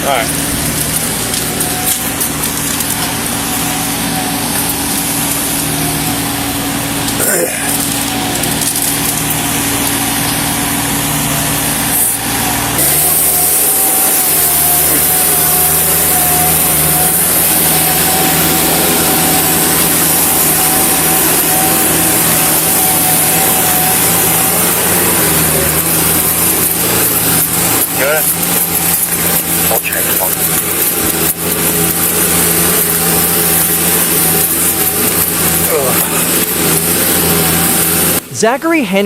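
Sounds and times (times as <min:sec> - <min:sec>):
wavering whine: 0:00.0 - 0:38.7
excavator engine running: 0:00.0 - 0:39.0.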